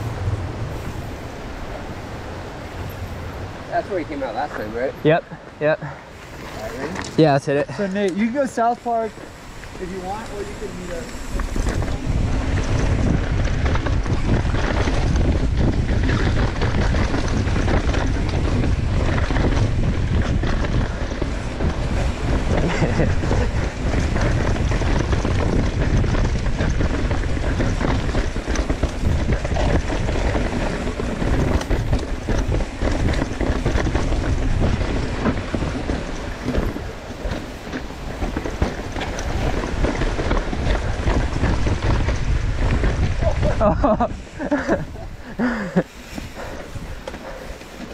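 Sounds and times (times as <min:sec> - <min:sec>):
bike rattling over bumps: 0:00.0 - 0:05.0, 0:05.7 - 0:47.9
wind buffeting microphone: 0:00.0 - 0:47.9
tyres rolling over dirt: 0:06.1 - 0:47.9.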